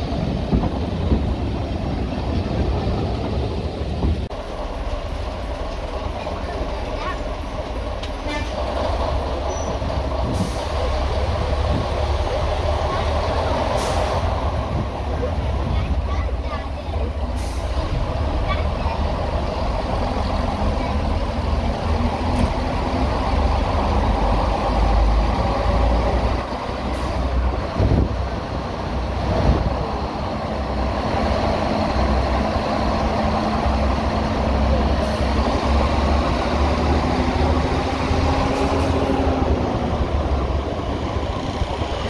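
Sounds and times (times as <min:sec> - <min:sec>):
diesel train engine rumbling: 0:00.0 - 0:42.0.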